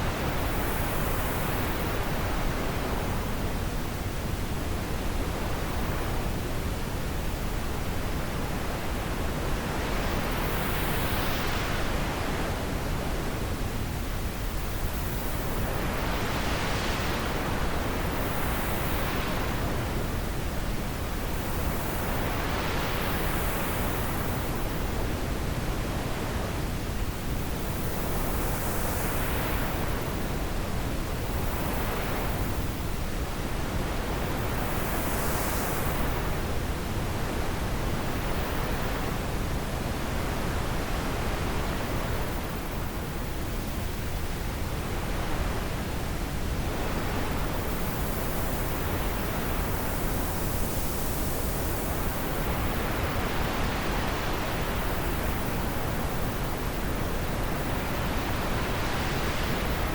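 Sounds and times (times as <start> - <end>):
wind blowing in gusts: 0.0 - 59.9.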